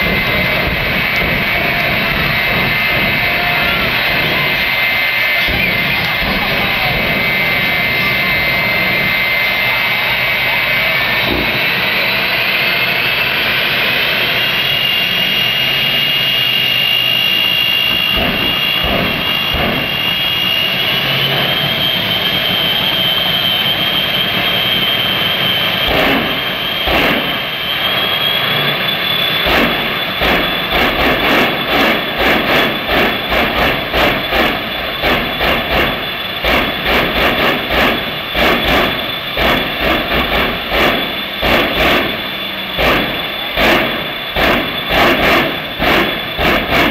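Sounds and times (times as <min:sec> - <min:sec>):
jet engine whine: 0:00.0 - 0:46.9
loud afterburner bursts: 0:00.0 - 0:46.9.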